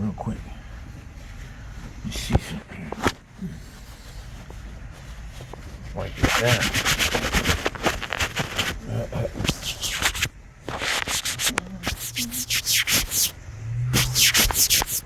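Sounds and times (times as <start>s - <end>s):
cloth rubbing over wet gear: 0.8s - 15.0s.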